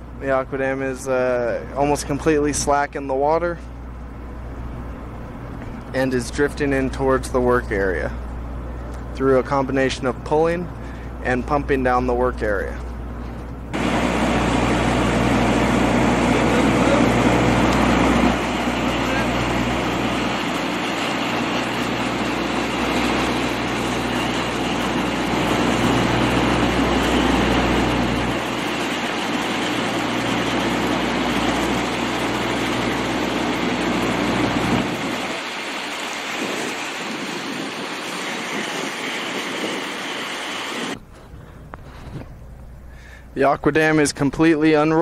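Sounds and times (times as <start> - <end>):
heavy machinery engine hum: 0.0 - 43.4.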